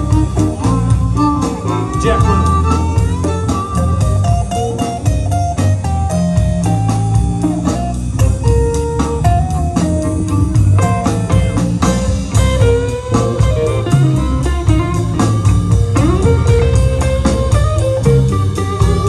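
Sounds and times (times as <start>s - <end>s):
bass guitar: 0.0s - 19.0s
bending lead guitar notes: 0.0s - 19.0s
drum kit beat: 0.0s - 19.0s
electric guitar: 0.0s - 19.0s.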